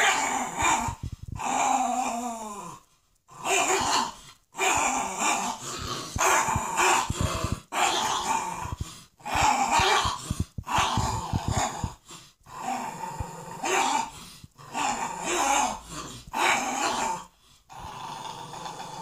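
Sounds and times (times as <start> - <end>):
dogs play-growling: 0.0 - 19.0.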